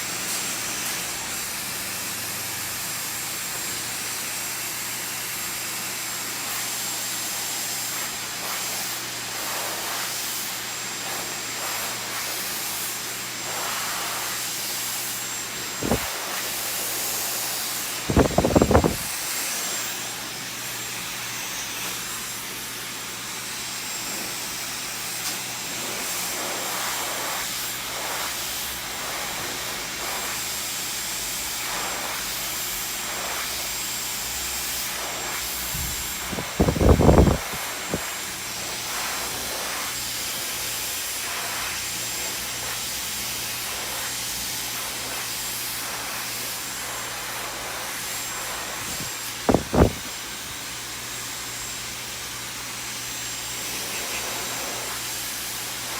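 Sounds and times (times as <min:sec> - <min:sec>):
hair dryer blowing: 0:00.0 - 0:55.9.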